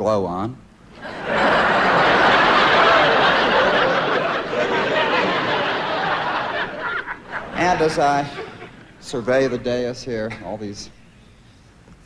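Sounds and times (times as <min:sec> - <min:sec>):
large audience laughing: 0:00.9 - 0:10.6.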